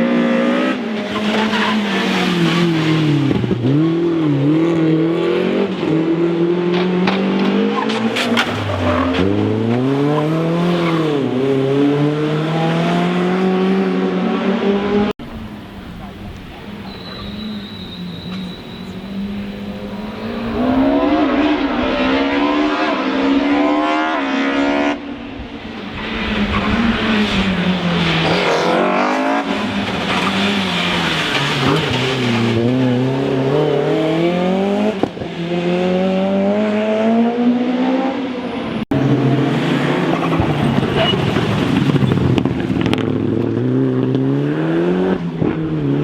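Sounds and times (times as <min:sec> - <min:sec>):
rally car engine revving: 0:00.0 - 0:15.2, 0:16.6 - 0:46.0.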